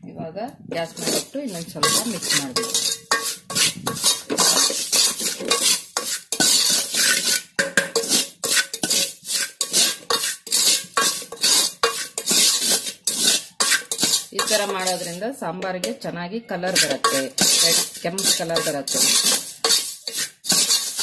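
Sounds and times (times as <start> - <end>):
ladle scraping metal pot: 0.7 - 21.0.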